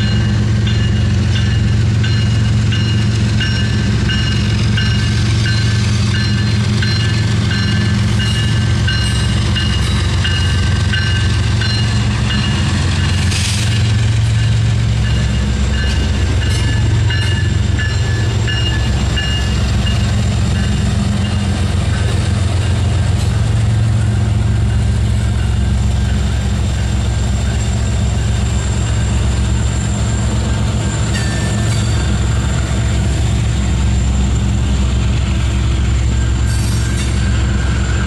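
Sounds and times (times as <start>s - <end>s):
diesel locomotive passing: 0.0s - 38.0s
steel wheels rumbling on rail: 0.0s - 38.0s.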